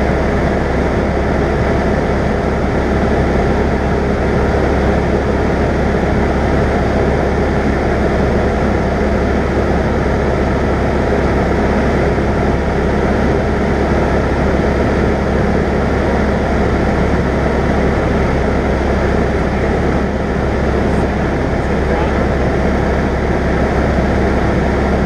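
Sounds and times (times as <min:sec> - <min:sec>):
airplane engine drone: 0:00.0 - 0:25.0.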